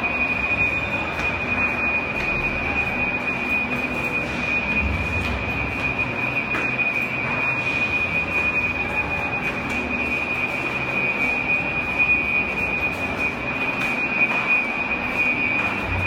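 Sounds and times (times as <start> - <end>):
fire alarm high-pitched tone: 0.0 - 16.0
steady background noise: 0.0 - 16.0.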